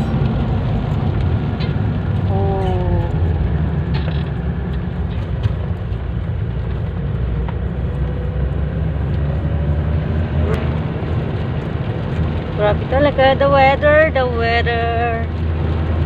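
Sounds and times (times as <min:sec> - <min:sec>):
car engine: 0:00.0 - 0:16.0
rain: 0:00.0 - 0:16.0
tyres on wet road: 0:00.0 - 0:16.0.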